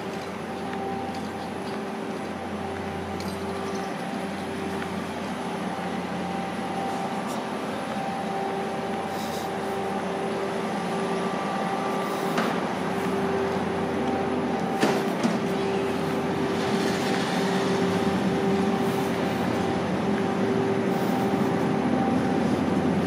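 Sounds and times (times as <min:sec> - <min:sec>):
machine hum with low drone: 0:00.0 - 0:23.0.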